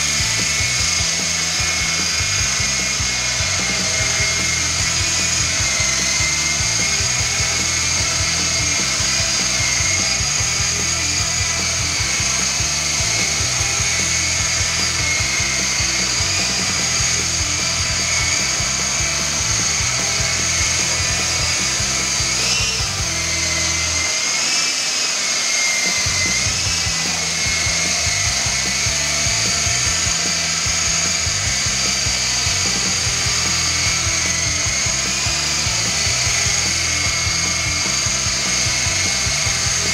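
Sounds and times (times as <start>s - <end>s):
background music: 0.0s - 24.2s, 26.0s - 39.9s
rc helicopter rotors whining: 0.0s - 39.9s.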